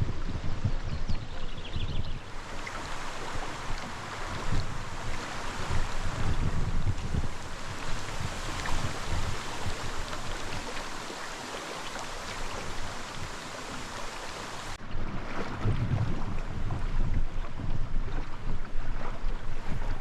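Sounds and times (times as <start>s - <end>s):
water rushing past hull: 0.0s - 20.0s
wind buffeting microphone: 0.0s - 20.0s.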